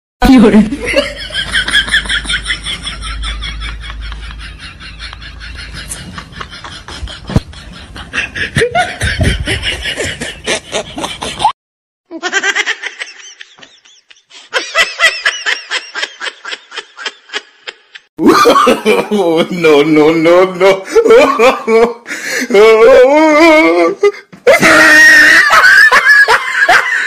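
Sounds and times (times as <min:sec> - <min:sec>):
people laughing in bursts: 0:00.4 - 0:11.6, 0:12.2 - 0:22.7, 0:24.5 - 0:27.0.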